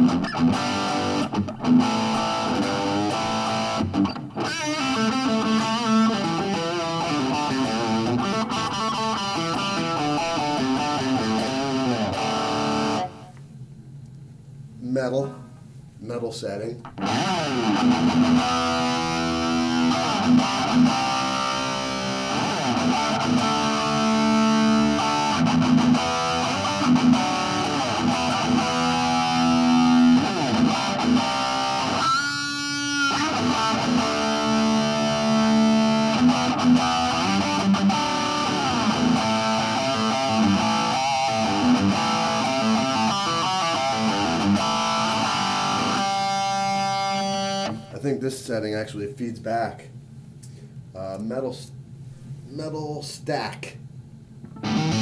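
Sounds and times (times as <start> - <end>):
distorted electric guitar riffs: 0.0 - 13.4, 16.8 - 48.0, 54.4 - 55.0.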